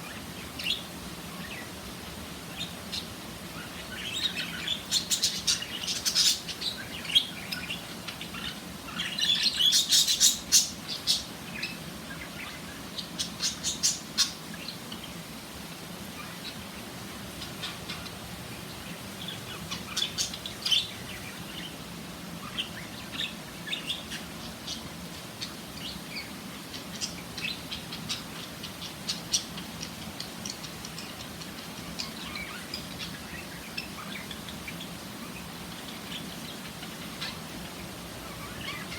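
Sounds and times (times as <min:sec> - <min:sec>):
budgerigars chirping and chattering: 0:00.0 - 0:01.8, 0:02.4 - 0:15.2, 0:16.2 - 0:38.9.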